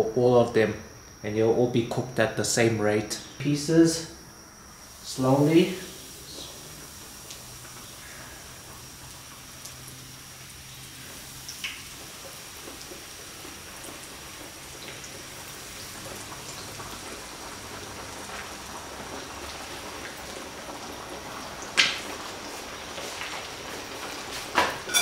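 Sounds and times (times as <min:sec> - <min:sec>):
chicken deep-frying in oil: 0:00.8 - 0:25.0.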